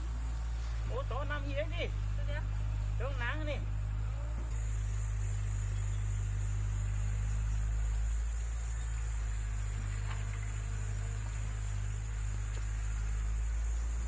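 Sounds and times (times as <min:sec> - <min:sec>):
engine drone: 0:00.0 - 0:14.0
steady high whine: 0:00.0 - 0:14.0.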